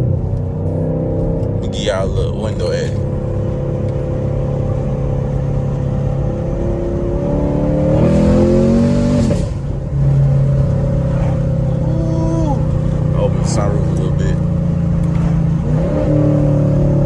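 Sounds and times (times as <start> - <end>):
car exhaust while driving: 0.0 - 17.0.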